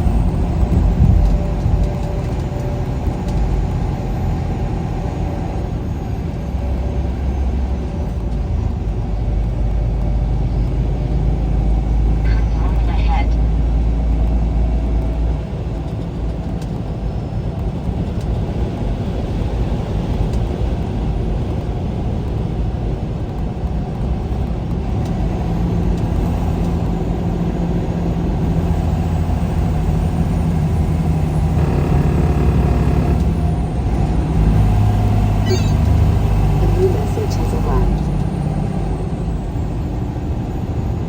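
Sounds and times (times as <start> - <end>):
road noise: 0.0 - 41.0
truck engine drone: 0.0 - 41.0.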